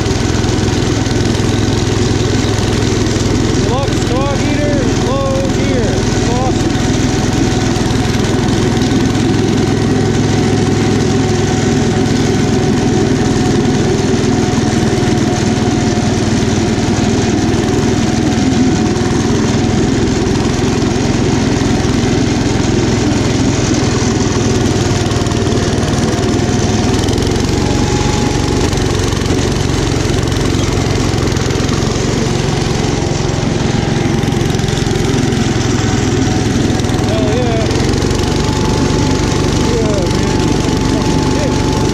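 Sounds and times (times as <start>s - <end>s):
snow blower engine running: 0.0s - 41.9s.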